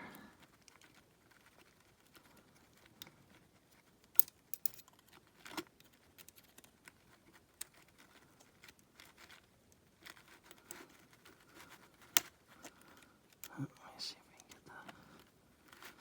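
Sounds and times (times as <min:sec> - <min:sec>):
small metal parts clicking: 0:00.3 - 0:13.6.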